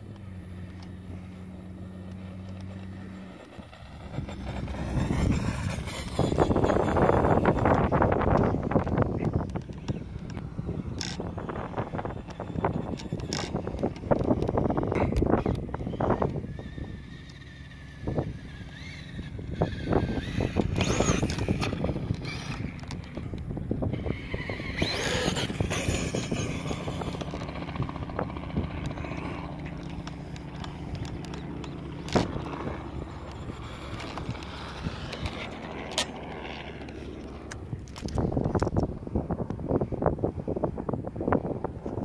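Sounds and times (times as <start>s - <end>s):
electric motor whining: 0.0s - 39.8s
wind rumble on microphone: 0.0s - 42.0s.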